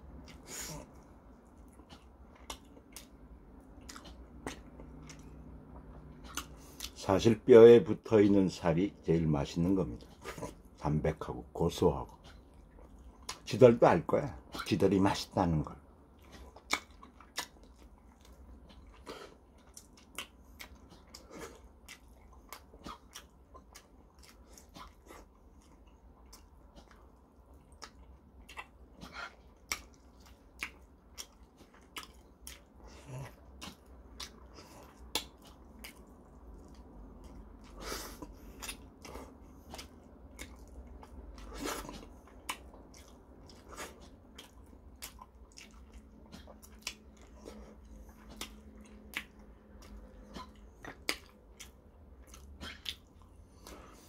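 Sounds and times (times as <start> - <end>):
person chewing: 0.0 - 7.0, 9.5 - 13.8, 15.8 - 54.0.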